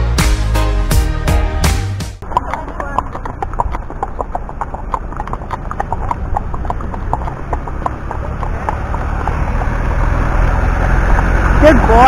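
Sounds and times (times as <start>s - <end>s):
hooves clip-clopping on tarmac: 2.2s - 12.0s.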